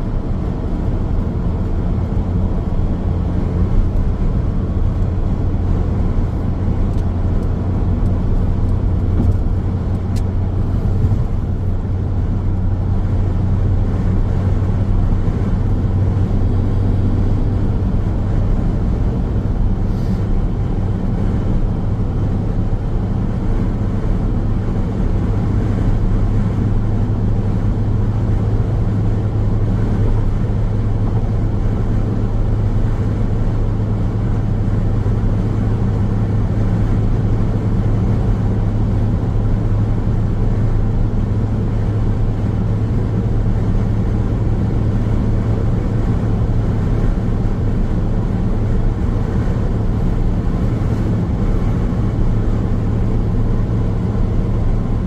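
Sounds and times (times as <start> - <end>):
car tyre and road noise: 0.0 - 55.0.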